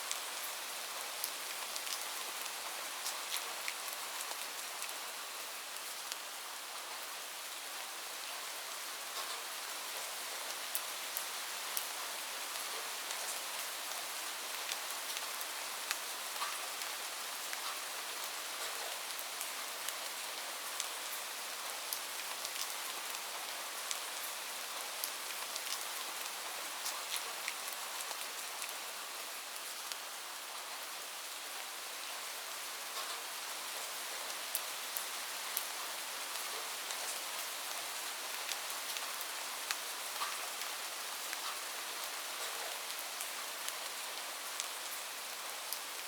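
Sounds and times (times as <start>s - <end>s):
raindrops ticking on a surface: 0.0s - 6.3s, 8.4s - 30.9s, 32.8s - 46.0s
light rain hiss: 0.0s - 46.0s.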